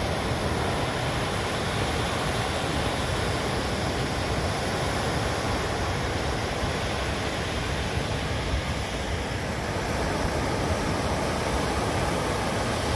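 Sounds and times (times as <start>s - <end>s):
sea surf washing: 0.0s - 12.9s.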